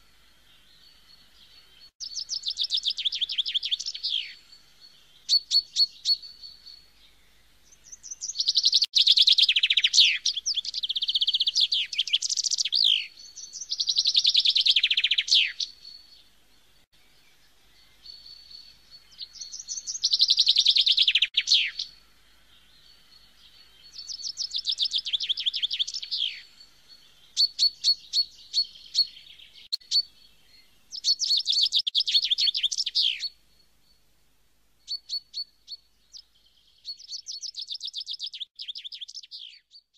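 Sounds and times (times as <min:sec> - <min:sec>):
bird singing trills: 0:00.0 - 0:34.0, 0:34.8 - 0:39.9.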